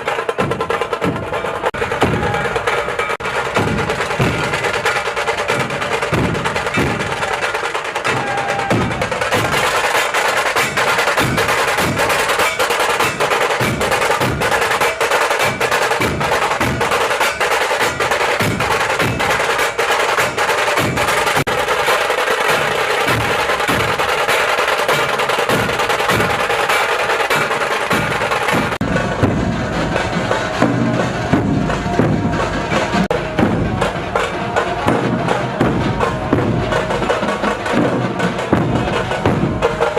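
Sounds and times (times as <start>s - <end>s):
music with fast percussion: 0.0s - 39.9s.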